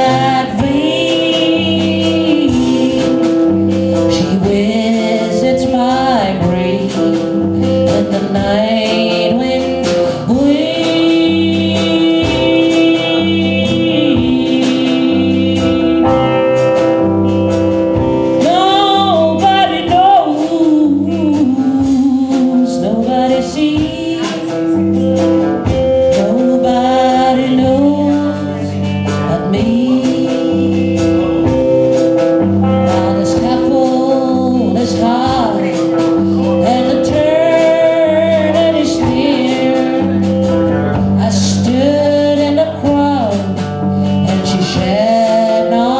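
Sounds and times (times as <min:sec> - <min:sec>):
live band playing: 0:00.0 - 0:45.9
person singing: 0:00.0 - 0:45.9.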